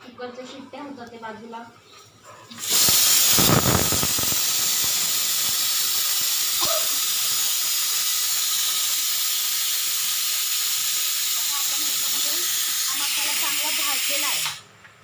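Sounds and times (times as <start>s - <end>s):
pressure cooker steam hiss: 2.6s - 14.7s.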